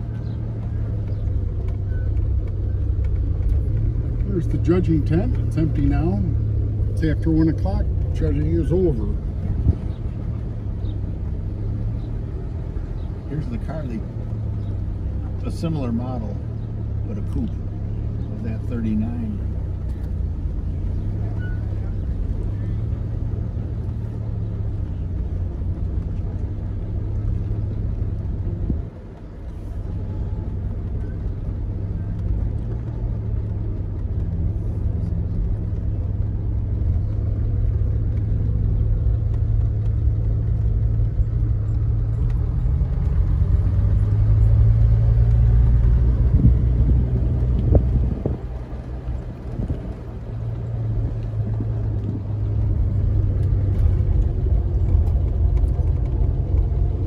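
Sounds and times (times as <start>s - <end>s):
car engine hum: 0.0s - 57.0s
road noise: 0.0s - 57.0s.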